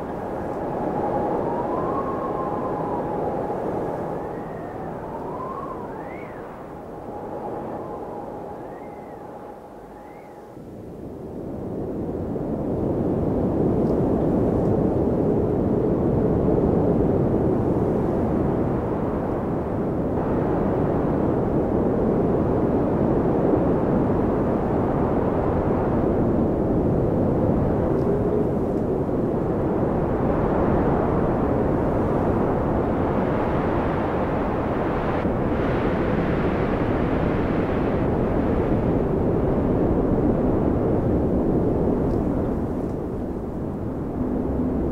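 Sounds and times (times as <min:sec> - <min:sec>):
wind blowing in snowstorm: 0:00.0 - 0:44.9.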